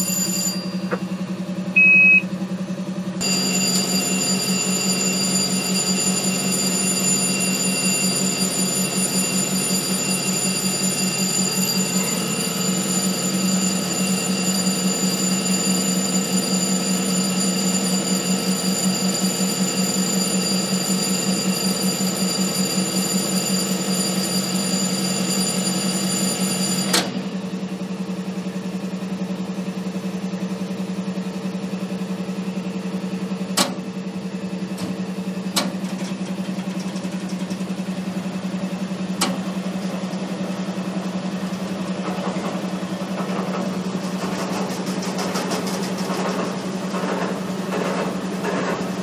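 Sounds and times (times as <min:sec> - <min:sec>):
diesel locomotive engine drone: 0:00.0 - 0:49.0.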